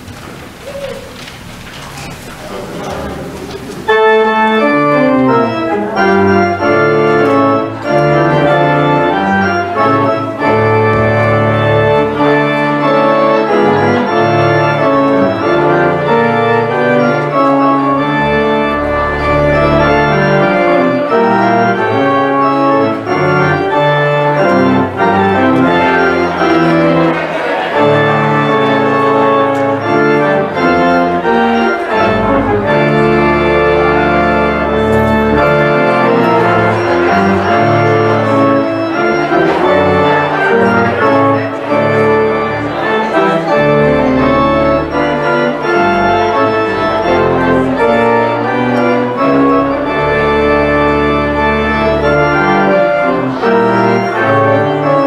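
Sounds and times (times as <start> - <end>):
church organ playing: 1.2 - 55.0.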